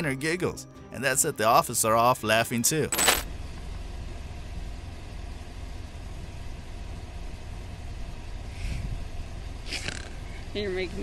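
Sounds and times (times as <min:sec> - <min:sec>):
vehicle engine idling: 0:01.4 - 0:11.0.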